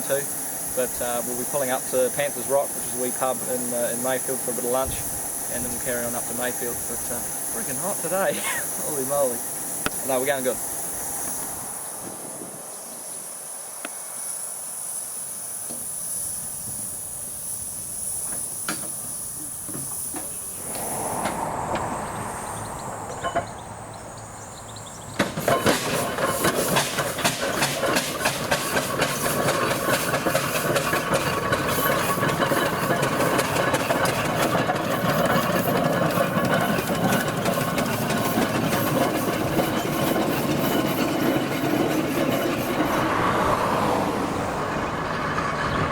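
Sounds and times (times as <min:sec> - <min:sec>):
steam engine clattering: 0:00.0 - 0:12.2, 0:16.8 - 0:23.7, 0:25.0 - 0:45.9
steam engine hissing: 0:00.0 - 0:45.9.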